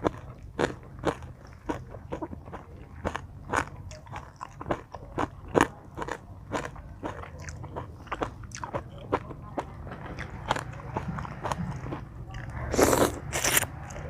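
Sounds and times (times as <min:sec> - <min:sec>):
person chewing crunchy salad: 0:00.0 - 0:14.0.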